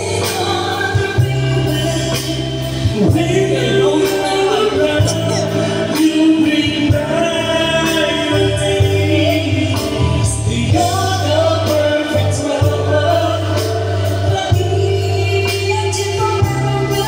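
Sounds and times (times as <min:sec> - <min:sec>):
backing music with beat and bass: 0:00.0 - 0:17.0
man and woman singing duet: 0:00.0 - 0:17.0.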